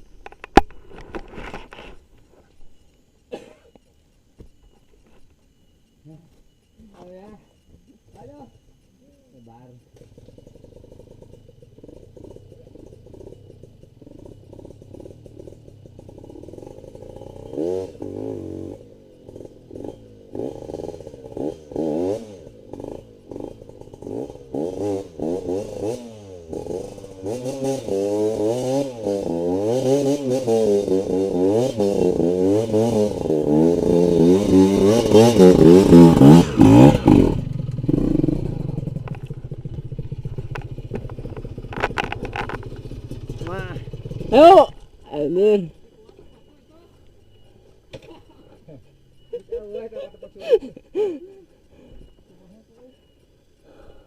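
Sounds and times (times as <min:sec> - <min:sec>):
motorcycle engine revving: 0:04.3 - 0:54.0.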